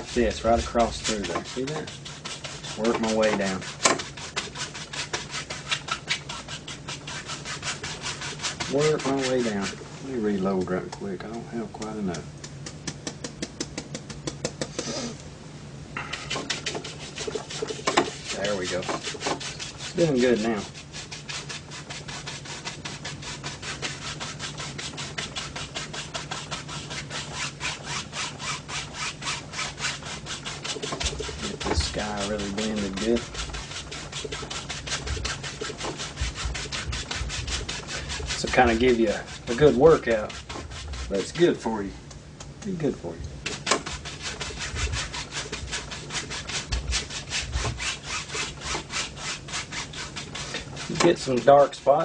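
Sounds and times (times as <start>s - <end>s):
brush rasping on canvas: 0.0s - 15.2s, 16.0s - 41.8s, 43.4s - 52.0s.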